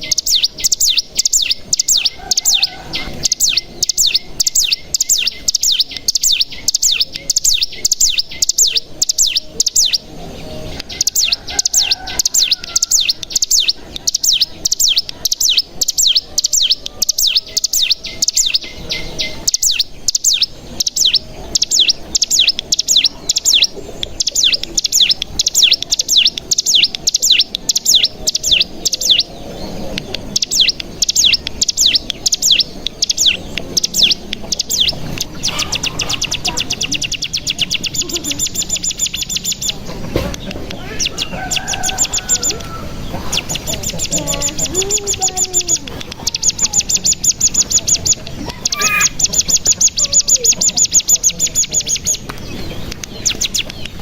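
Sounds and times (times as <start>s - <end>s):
bird singing rapid trill: 0.0s - 54.0s.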